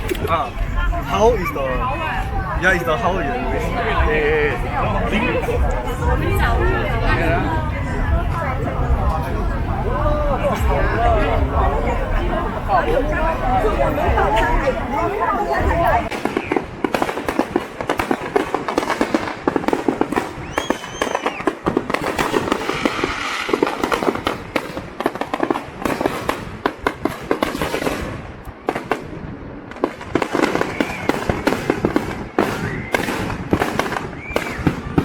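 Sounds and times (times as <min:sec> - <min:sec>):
fireworks crackling bangs: 0:00.0 - 0:35.0.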